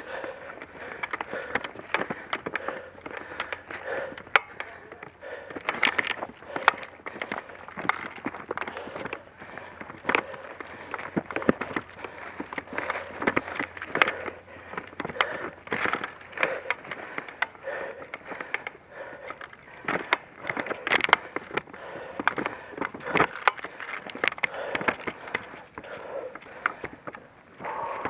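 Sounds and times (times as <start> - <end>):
footsteps through dry undergrowth: 0.0 - 28.0
twigs snapping: 0.1 - 28.0.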